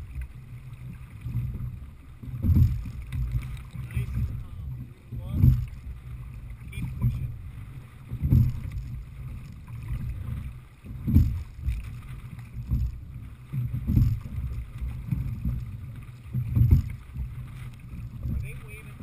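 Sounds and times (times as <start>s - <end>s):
water rushing along boat hull: 0.0s - 19.0s
wind buffeting microphone: 0.0s - 19.0s.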